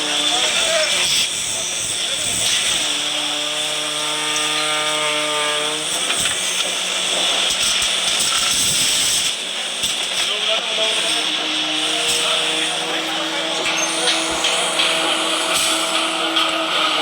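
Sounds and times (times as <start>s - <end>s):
concrete pump truck running: 0.0s - 3.8s, 5.8s - 17.0s.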